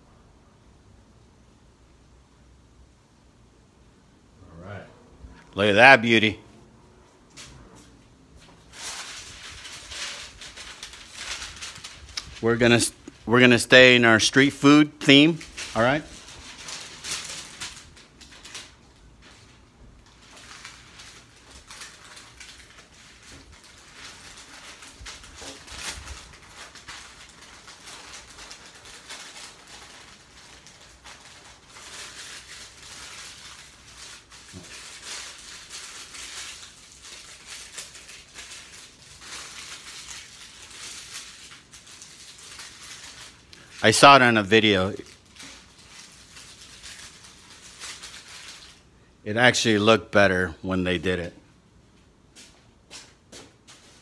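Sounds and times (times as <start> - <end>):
wrapping paper rustling: 7.3 - 51.3.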